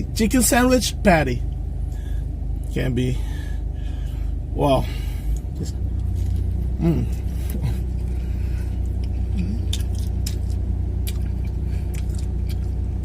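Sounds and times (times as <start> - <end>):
car idling inside cabin: 0.0 - 13.0.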